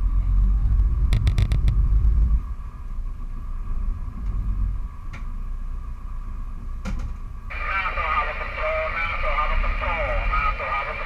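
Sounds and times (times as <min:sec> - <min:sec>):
boat engines rumbling: 0:00.0 - 0:11.0
faint steady whine: 0:00.0 - 0:11.0.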